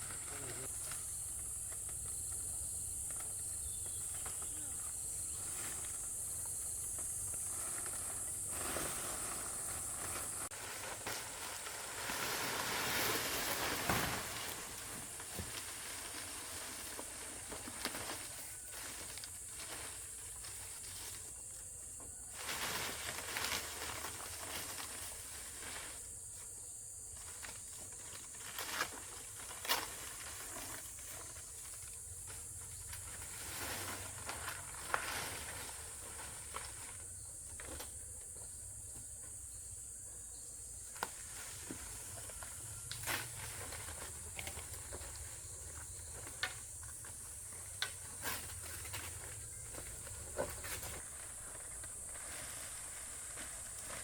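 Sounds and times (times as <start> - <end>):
rustling: 0.0 - 26.5, 27.1 - 38.2, 40.9 - 54.0.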